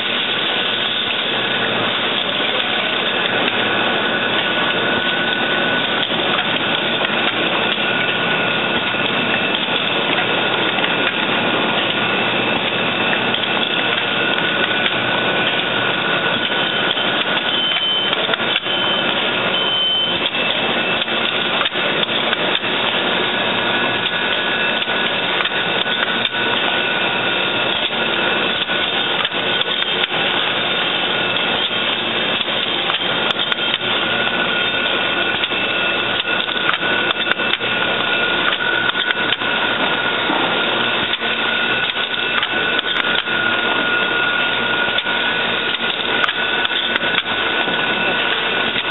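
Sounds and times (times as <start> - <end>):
machine clattering: 0.0 - 48.9
thin high whine: 0.0 - 48.9.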